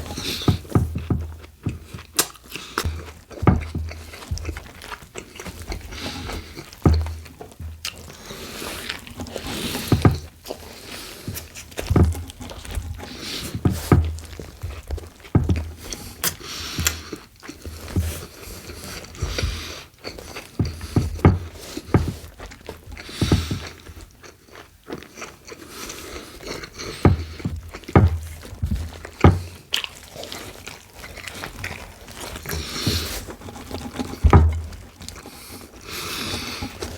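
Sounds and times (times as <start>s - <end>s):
sandwich crunching and chewing: 0.0s - 36.9s.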